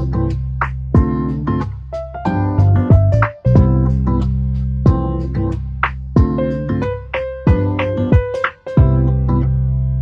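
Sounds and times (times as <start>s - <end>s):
bass and kick-drum beat: 0.0s - 10.0s
electric piano chords: 0.0s - 10.0s.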